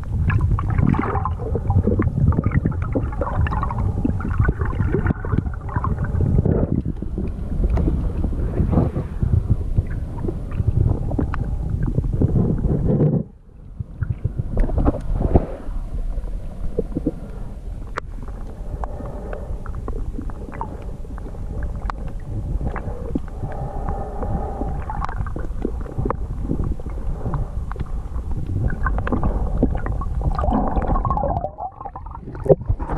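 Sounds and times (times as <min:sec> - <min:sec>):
muffled underwater water rumble: 0:00.0 - 0:32.9
underwater clicks and crackles: 0:00.0 - 0:32.9.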